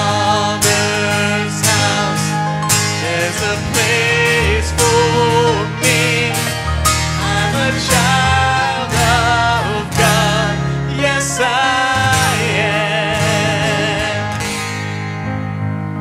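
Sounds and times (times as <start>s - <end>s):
person singing with vibrato: 0.0s - 14.6s
guitar: 0.0s - 16.0s
steady bass notes: 0.0s - 16.0s.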